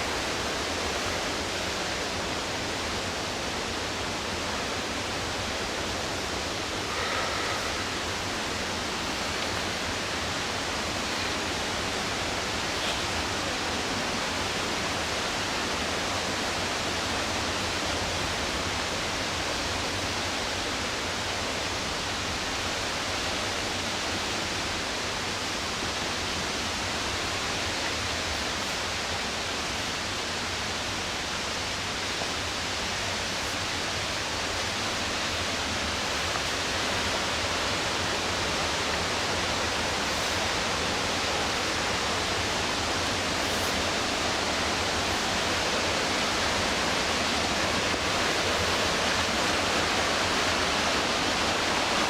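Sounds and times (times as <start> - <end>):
rushing whitewater roar: 0.0 - 52.0.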